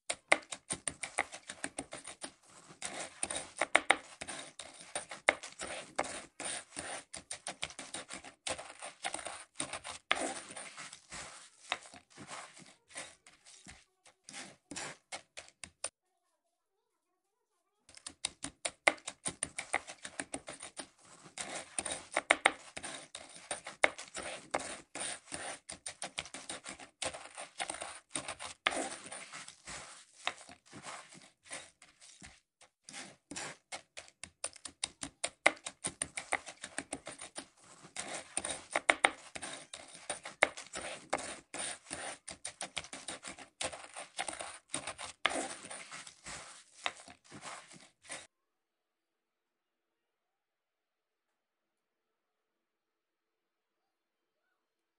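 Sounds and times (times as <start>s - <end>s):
broom sweeping tiled floor: 0.1s - 15.9s, 18.4s - 48.3s.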